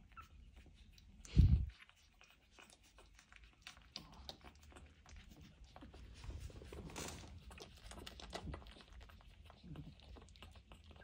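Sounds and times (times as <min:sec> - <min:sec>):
puppies suckling: 0:00.0 - 0:11.0.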